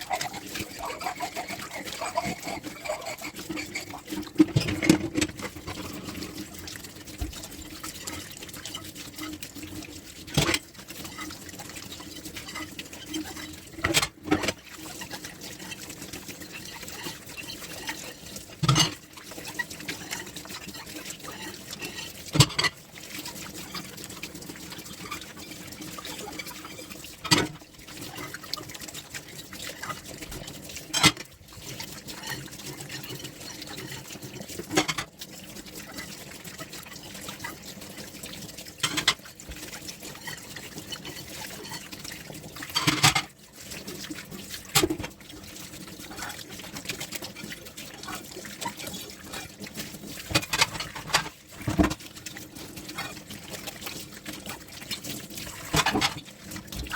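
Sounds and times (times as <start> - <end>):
water running in sink: 0.0 - 56.9.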